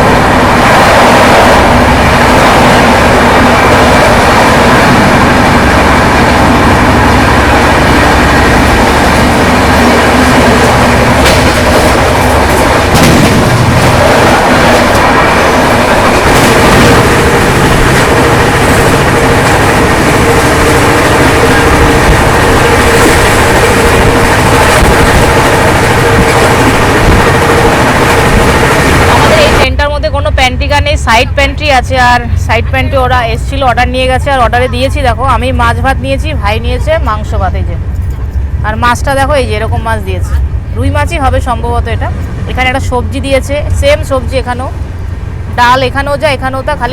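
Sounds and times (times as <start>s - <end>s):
train rumbling and rattling on track: 0.0s - 46.9s.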